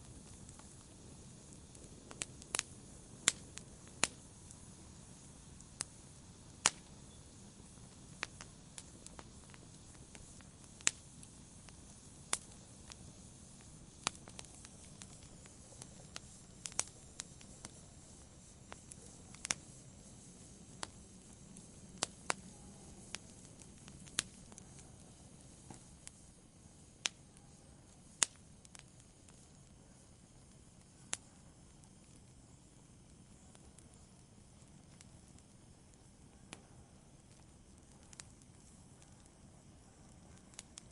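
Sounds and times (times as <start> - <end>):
faint steady hiss: 0.0 - 40.9
wood fire crackling: 0.0 - 40.9.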